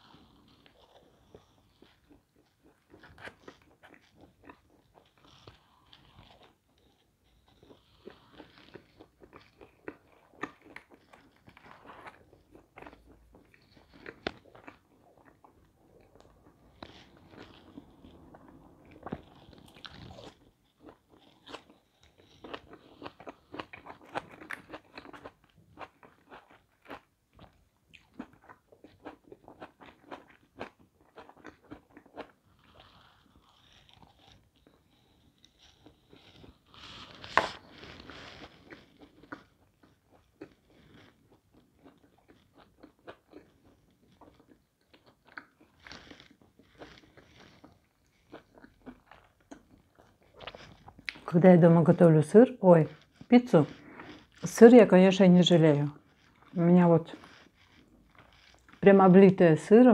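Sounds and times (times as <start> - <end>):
person chewing and biting pizza: 0.0 - 51.3, 52.9 - 54.4, 55.9 - 58.8.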